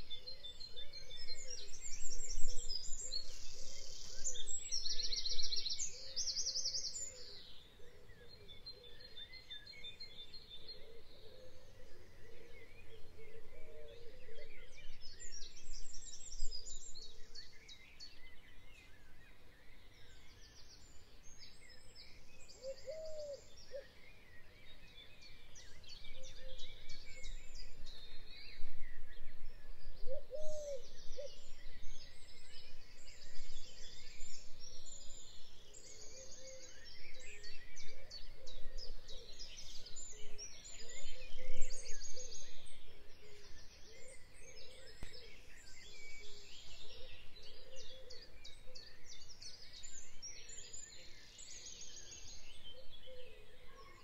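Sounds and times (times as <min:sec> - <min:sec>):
birds chirping chorus: 0:00.0 - 0:54.0.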